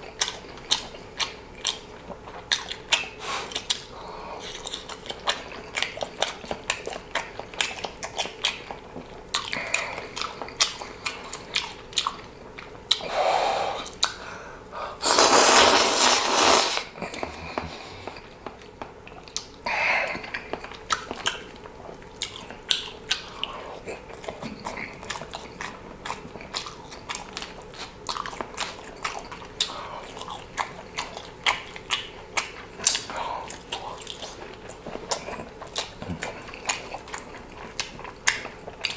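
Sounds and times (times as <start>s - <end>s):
chewing and biting food: 0.0s - 13.2s, 15.1s - 38.9s.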